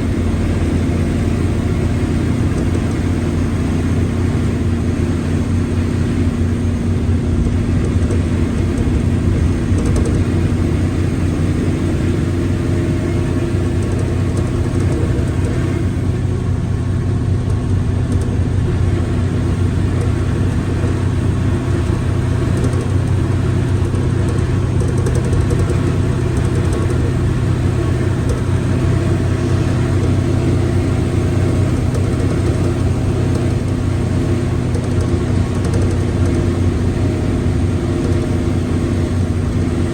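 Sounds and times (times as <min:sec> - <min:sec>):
bus engine droning: 0:00.0 - 0:39.9
gearbox growling: 0:05.3 - 0:39.9.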